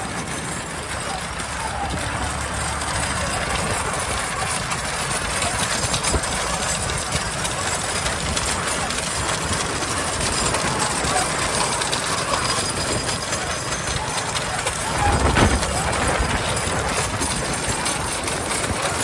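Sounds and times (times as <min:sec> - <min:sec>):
cart wheels clattering on asphalt: 0:00.0 - 0:19.0
vehicle engine: 0:00.0 - 0:19.0.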